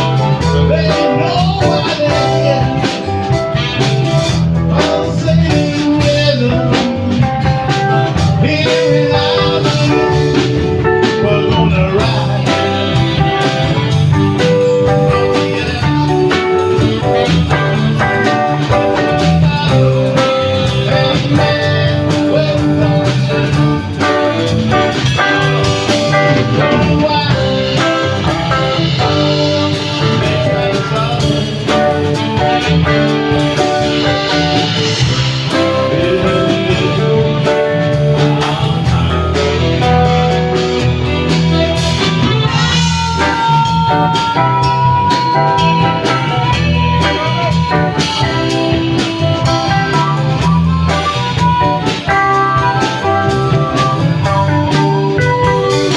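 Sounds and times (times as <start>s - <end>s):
blues-rock band playing: 0.0s - 55.9s
long held guitar lead notes: 0.0s - 55.9s.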